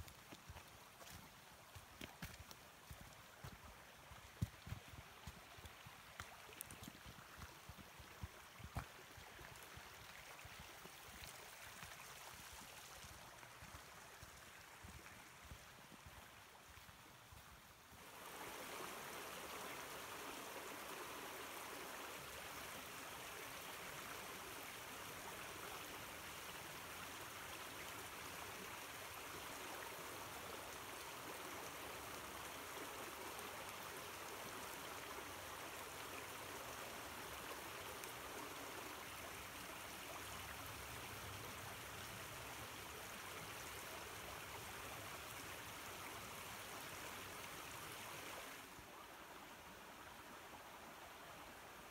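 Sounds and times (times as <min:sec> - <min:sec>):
creek babbling: 0:00.0 - 0:51.9.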